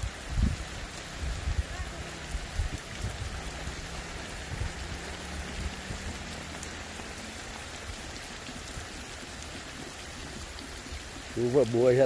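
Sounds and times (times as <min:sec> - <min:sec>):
heavy rain on earth: 0:00.0 - 0:12.0.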